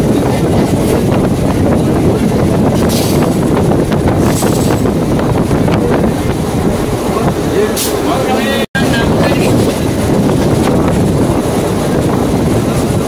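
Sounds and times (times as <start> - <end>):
rush of wind: 0.0 - 13.0
train rumble: 0.0 - 13.0.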